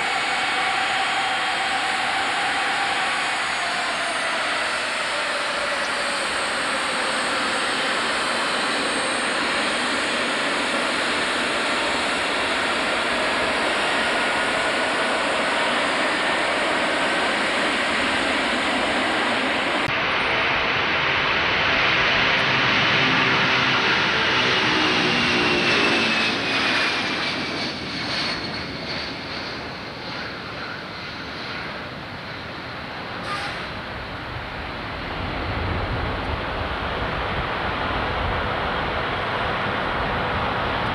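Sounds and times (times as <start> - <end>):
jet engine whine: 0.0 - 40.9
jet takeoff roar: 0.0 - 40.9.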